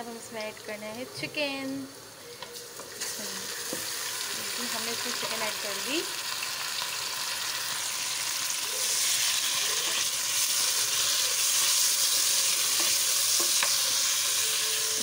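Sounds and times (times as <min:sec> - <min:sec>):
chicken sizzling in hot oil: 0:00.2 - 0:15.0.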